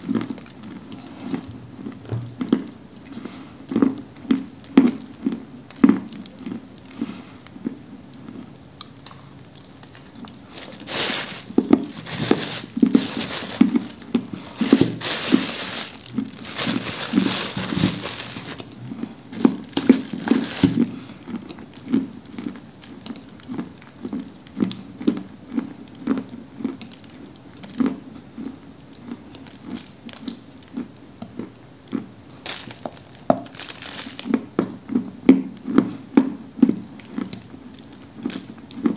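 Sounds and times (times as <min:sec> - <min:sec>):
chewing crunchy clay: 0:00.0 - 0:38.9.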